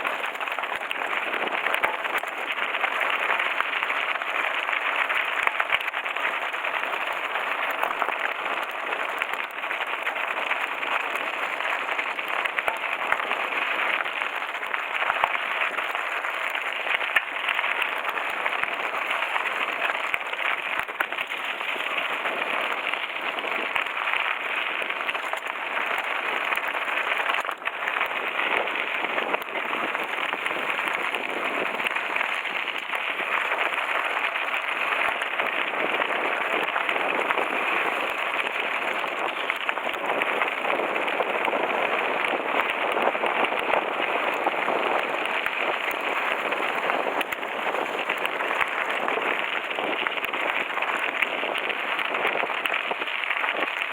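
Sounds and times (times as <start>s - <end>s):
bike tyres crunching on gravel: 0.0s - 53.9s.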